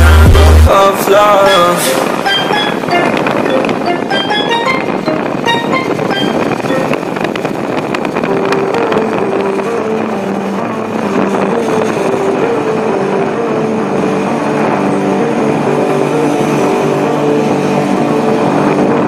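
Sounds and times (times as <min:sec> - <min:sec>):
passing traffic: 0:00.0 - 0:19.0
wind noise on microphone: 0:00.0 - 0:19.0.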